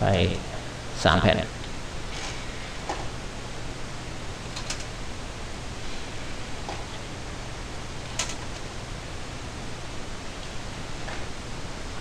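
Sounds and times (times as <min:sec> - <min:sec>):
computer hiss and hum: 0:00.0 - 0:12.0.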